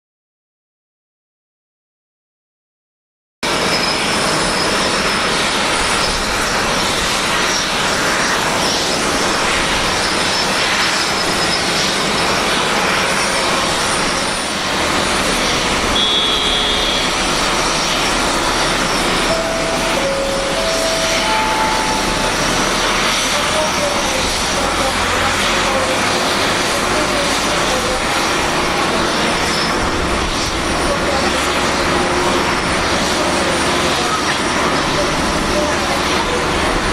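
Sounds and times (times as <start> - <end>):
jet engines running: 3.4 - 36.9.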